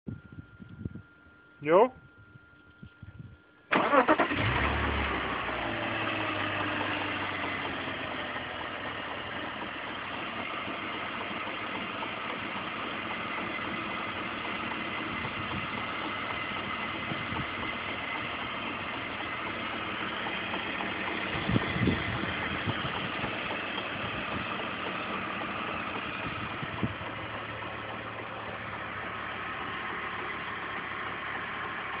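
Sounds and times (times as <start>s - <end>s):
car engine idling: 3.7s - 32.0s
engine clacking: 3.7s - 32.0s
engine knocks: 5.6s - 32.0s.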